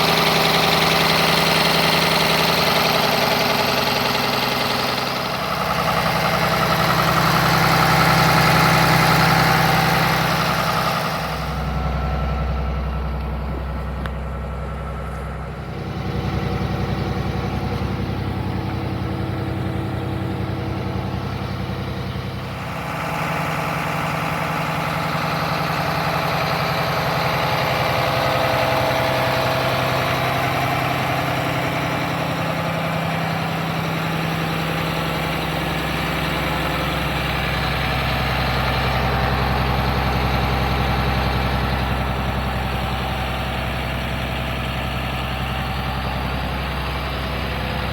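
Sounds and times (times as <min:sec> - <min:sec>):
diesel bus engine idling: 0:00.0 - 0:47.9.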